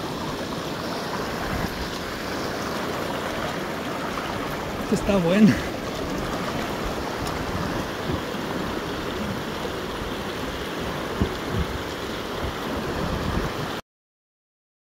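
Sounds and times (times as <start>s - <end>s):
stream rushing over stones: 0.0s - 13.8s.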